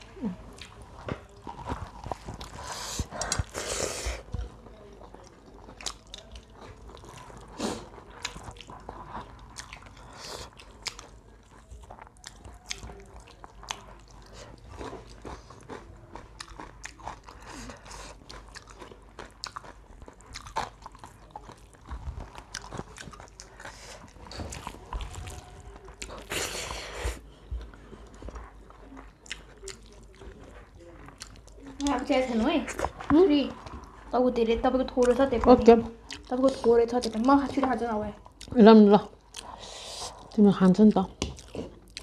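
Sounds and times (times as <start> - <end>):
people chewing crunchy food: 0.0 - 42.0.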